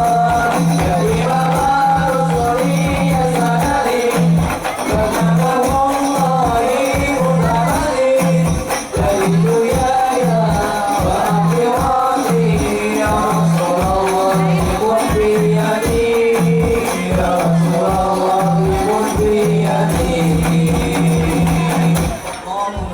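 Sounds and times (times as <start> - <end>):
group singing devotional song: 0.0 - 22.9
hand drums and jingles: 0.0 - 22.9.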